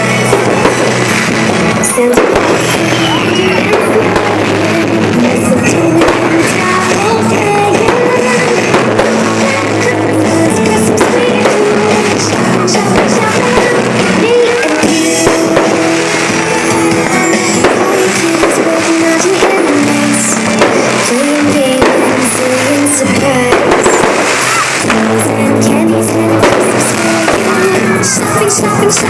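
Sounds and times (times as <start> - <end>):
fireworks bursting and crackling: 0.0 - 29.0
loud music with singing: 0.0 - 29.0.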